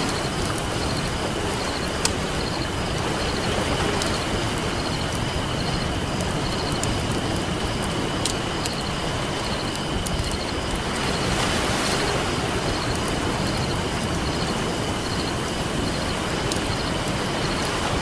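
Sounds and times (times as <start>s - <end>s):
campfire crackling and popping: 0.0s - 11.3s, 12.0s - 17.8s
ocean waves: 0.0s - 18.0s.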